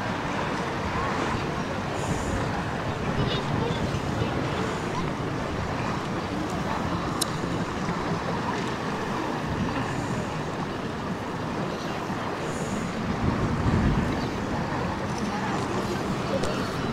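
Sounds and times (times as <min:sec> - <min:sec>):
wind noise: 0:00.0 - 0:16.9.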